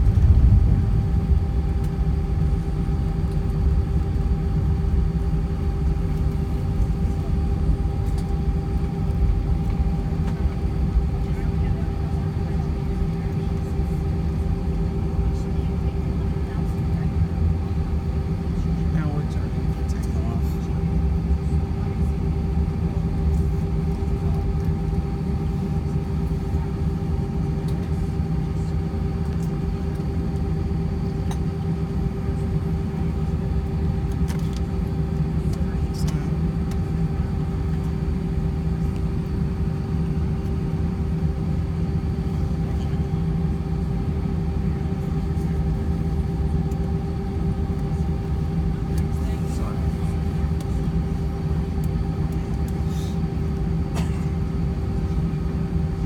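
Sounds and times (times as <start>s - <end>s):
aircraft engines idling: 0.0s - 56.0s.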